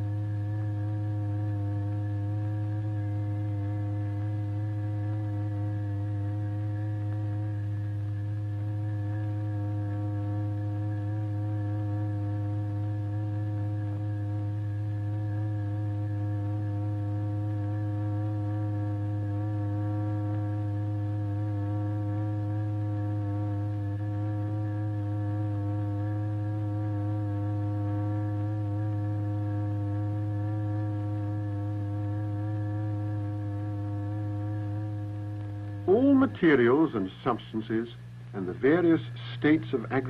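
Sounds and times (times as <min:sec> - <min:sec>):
low electronic hum: 0:00.0 - 0:40.0.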